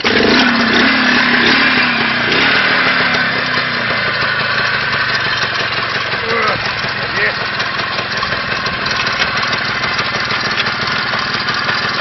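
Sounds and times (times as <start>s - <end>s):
two-stroke motorcycle engine running: 0.0s - 12.0s.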